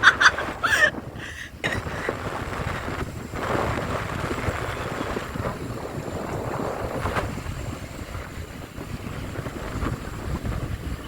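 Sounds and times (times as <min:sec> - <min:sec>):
motorcycle low rumble: 0:00.0 - 0:11.0
wind rushing over microphone: 0:00.0 - 0:11.0.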